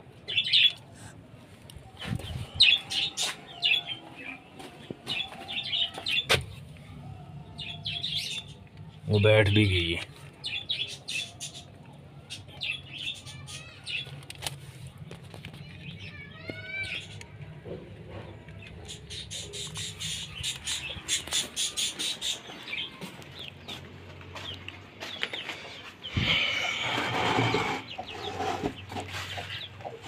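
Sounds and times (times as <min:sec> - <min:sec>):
birds chirping and clucking: 0:00.0 - 0:30.0.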